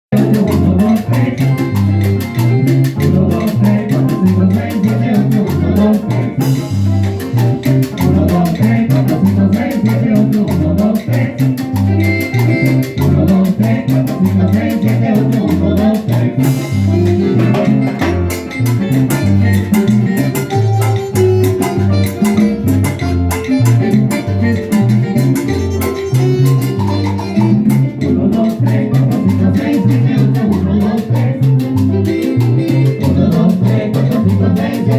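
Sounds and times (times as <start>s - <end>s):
latin dance band playing salsa: 0.1s - 34.9s.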